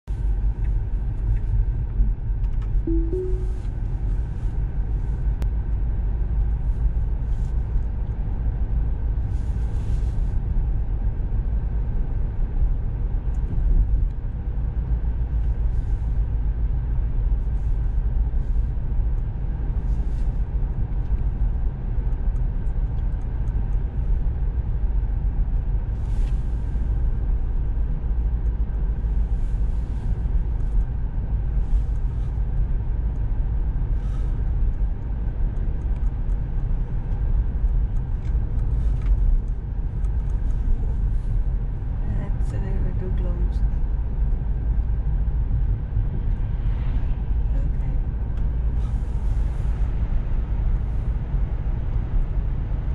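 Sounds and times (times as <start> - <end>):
road and tyre rumble: 0.0 - 52.9.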